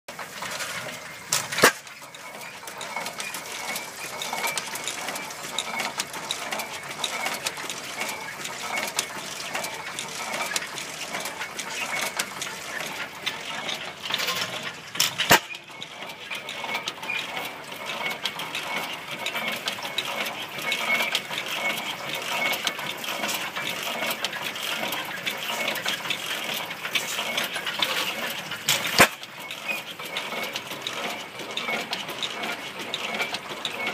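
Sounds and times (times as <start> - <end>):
gas engine metallic clatter: 0.1 - 33.9.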